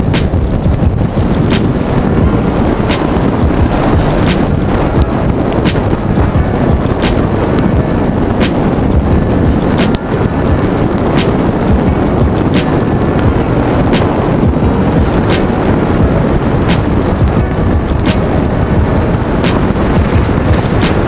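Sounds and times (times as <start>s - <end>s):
lofi hip-hop beat: 0.0s - 21.0s
wind buffeting microphone: 0.0s - 21.0s.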